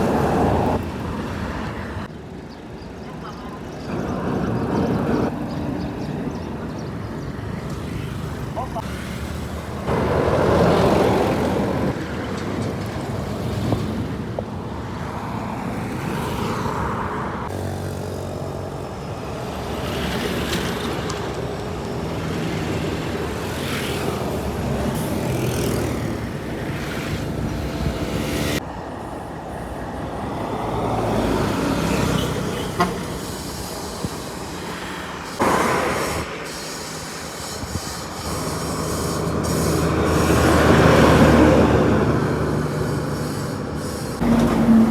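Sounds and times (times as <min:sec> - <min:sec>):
heavy truck engines passing: 0:00.0 - 0:44.9.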